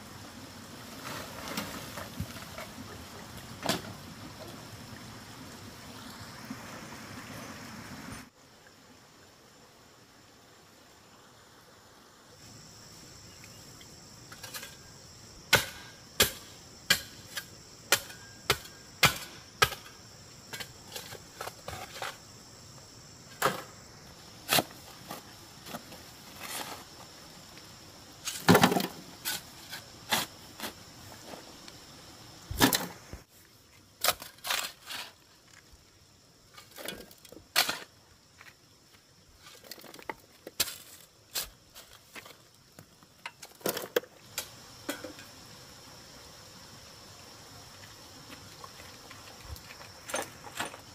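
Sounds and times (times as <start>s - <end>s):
faint high insect drone: 0.0s - 50.9s.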